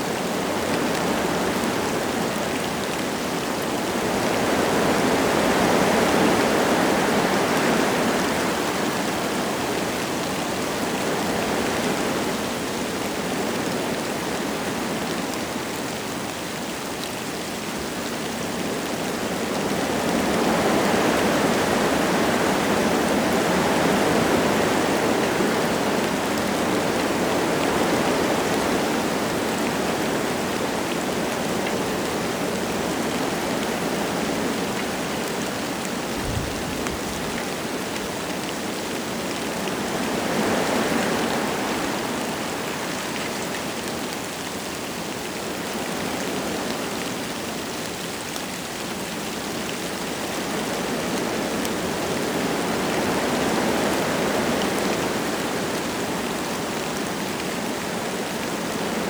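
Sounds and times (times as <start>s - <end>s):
light rain falling: 0.0s - 59.0s
wind gusting through trees: 0.0s - 59.0s.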